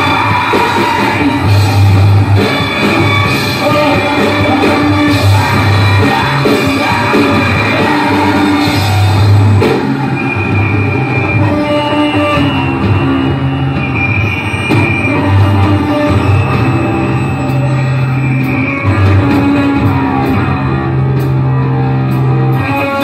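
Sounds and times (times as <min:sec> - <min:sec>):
heavy rock band playing live: 0:00.0 - 0:23.0.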